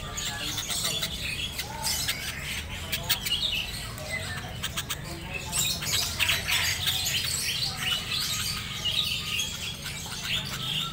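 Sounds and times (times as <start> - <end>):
bird chirping and squawking: 0.0 - 10.9.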